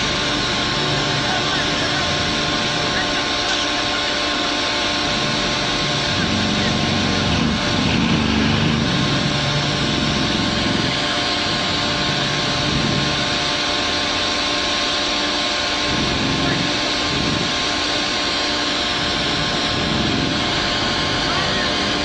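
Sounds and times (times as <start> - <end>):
diesel engines running: 0.0 - 22.0.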